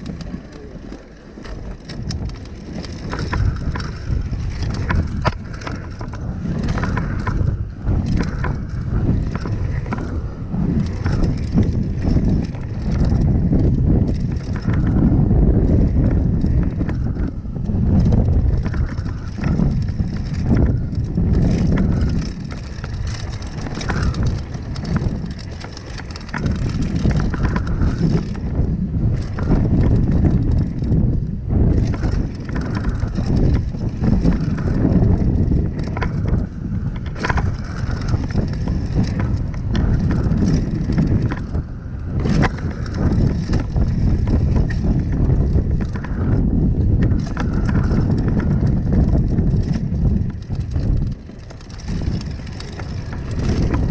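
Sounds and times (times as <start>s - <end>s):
bike rattling: 0.0s - 53.9s
tyres rumbling over dirt: 0.0s - 53.9s
wind buffeting microphone: 0.0s - 53.9s.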